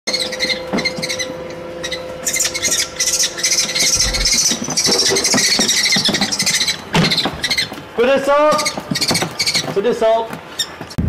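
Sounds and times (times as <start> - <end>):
nestling birds screeching: 0.1 - 11.0.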